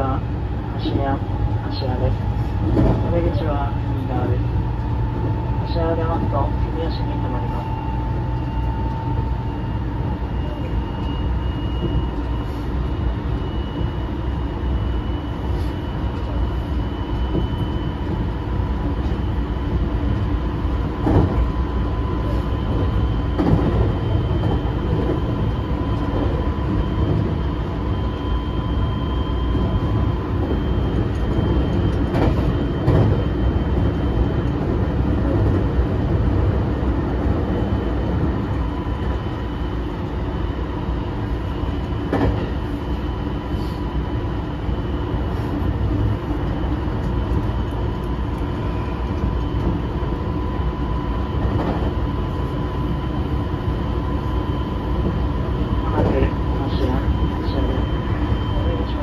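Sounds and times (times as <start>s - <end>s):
high traction motor whine: 0.0s - 59.0s
train wheels rumbling on rails: 0.0s - 59.0s.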